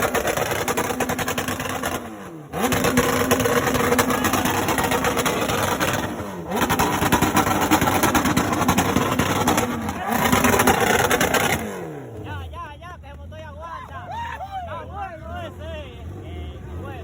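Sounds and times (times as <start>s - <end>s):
motorcycle engine revving: 0.0s - 12.6s, 14.8s - 17.0s.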